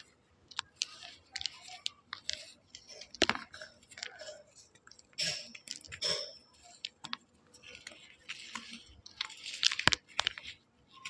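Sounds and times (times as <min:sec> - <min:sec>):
chalk being chewed: 0:00.0 - 0:11.0.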